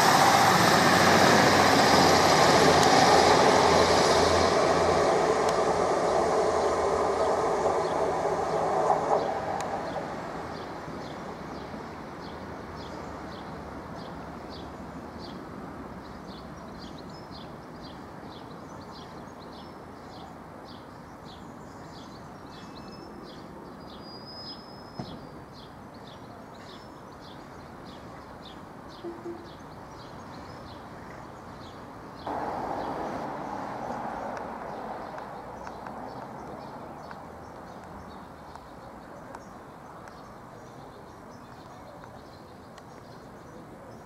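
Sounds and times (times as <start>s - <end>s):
diesel train engine and wheels: 0.0s - 16.8s, 25.0s - 44.0s.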